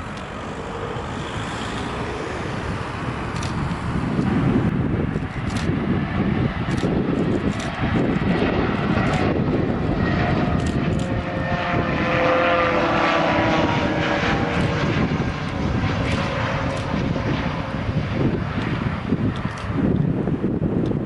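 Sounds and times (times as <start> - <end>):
airplane landing with steady tones: 0.0 - 21.0
wind rumble on microphone: 0.0 - 21.0.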